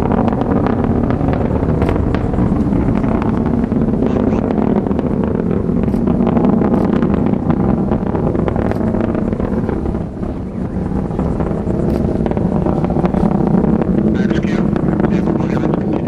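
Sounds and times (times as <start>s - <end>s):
rocket engine roar: 0.0s - 16.0s.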